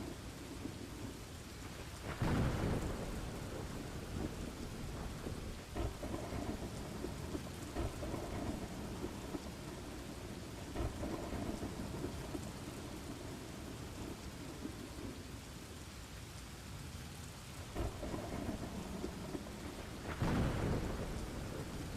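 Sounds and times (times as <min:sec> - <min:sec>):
low thunder rumble: 0:00.0 - 0:15.4, 0:17.7 - 0:21.9
raindrop crackles: 0:00.0 - 0:21.9
steady rain: 0:00.0 - 0:21.9.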